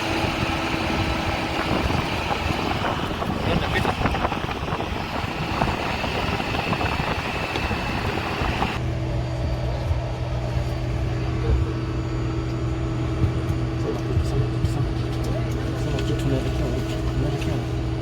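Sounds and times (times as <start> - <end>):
rushing noise with high whine: 0.0 - 16.1
low hum of cabin ventilation: 0.0 - 18.0.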